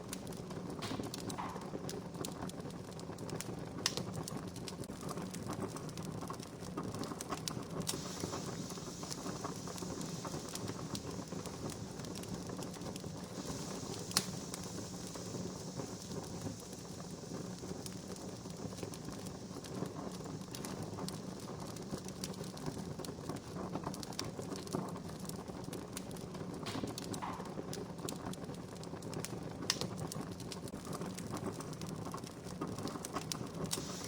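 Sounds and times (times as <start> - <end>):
campfire crackling: 0.0 - 34.0
fire sharp pops: 0.0 - 34.0.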